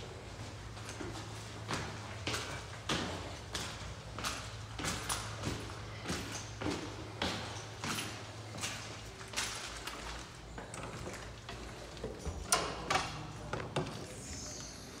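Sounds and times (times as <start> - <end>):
steady low hum: 0.0 - 15.0
footsteps on hard floor: 0.4 - 12.4.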